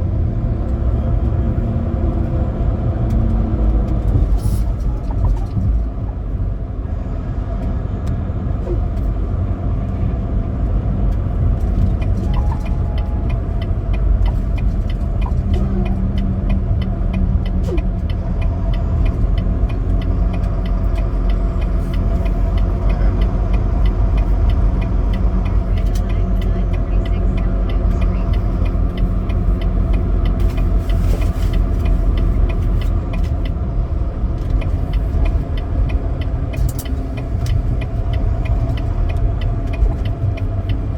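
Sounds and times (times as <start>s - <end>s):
diesel truck engine running: 0.0s - 40.9s
road noise rumble: 0.0s - 40.9s.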